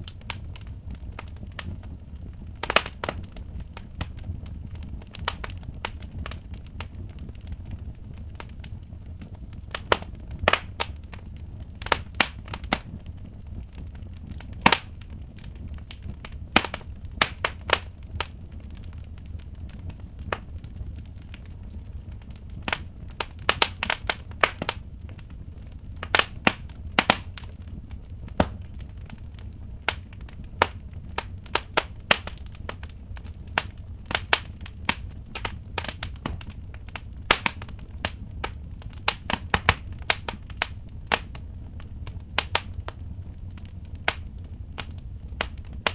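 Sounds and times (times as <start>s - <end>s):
low steady rumble: 0.0s - 45.9s
sharp pops of fire: 0.0s - 45.9s
wood fire crackling: 0.0s - 45.9s.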